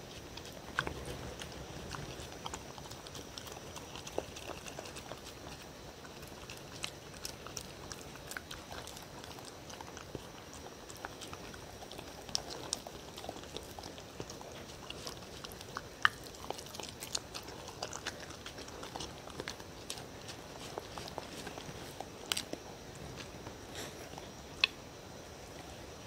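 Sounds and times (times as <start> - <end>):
dog chewing wetly: 0.0 - 24.8.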